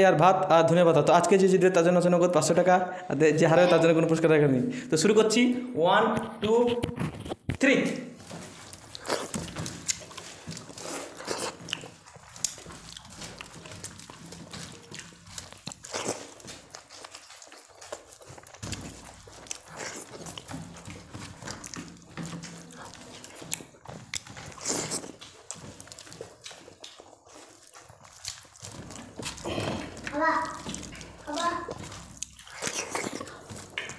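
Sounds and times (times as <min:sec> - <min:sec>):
people chewing and smacking: 0:00.0 - 0:05.3, 0:06.1 - 0:33.9.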